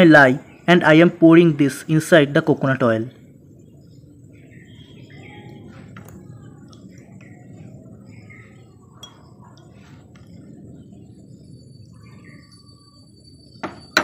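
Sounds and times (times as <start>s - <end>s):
faint chirps: 0.0s - 14.0s.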